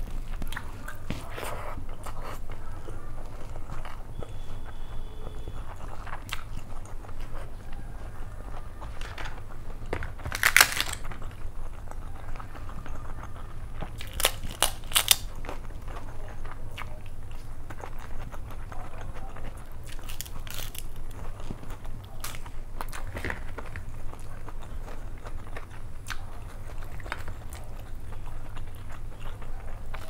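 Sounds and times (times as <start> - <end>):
crisp papad crunching: 0.0 - 16.6, 17.4 - 30.0
mouth chewing: 0.0 - 30.0.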